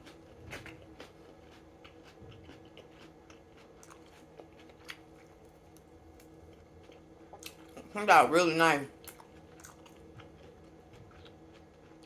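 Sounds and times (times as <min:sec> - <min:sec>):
wet chewing: 0:00.0 - 0:07.8, 0:09.0 - 0:12.0.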